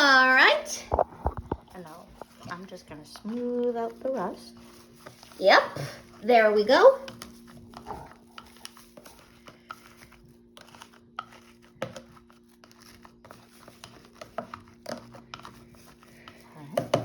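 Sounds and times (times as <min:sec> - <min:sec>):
plastic gloves crinkling: 0:00.3 - 0:16.6.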